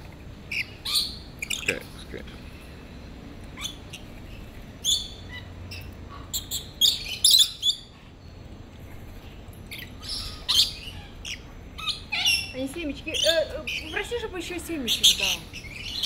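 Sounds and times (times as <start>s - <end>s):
parrots screeching and chattering: 0.4s - 2.0s, 3.5s - 7.9s, 8.9s - 16.0s.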